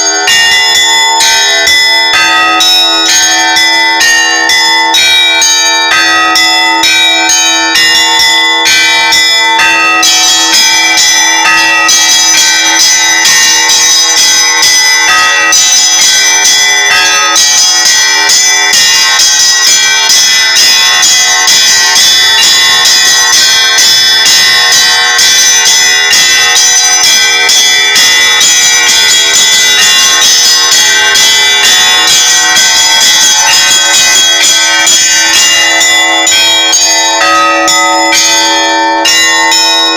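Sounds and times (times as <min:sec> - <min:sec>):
low bell ringing: 0:00.0 - 0:39.9
small high-pitched bells ringing: 0:00.0 - 0:39.9.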